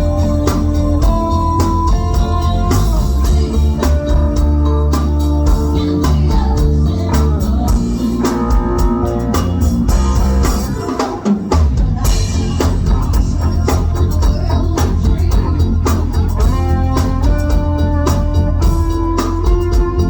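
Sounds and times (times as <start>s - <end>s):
band music: 0.0s - 20.0s
drum kit beat: 0.0s - 20.0s.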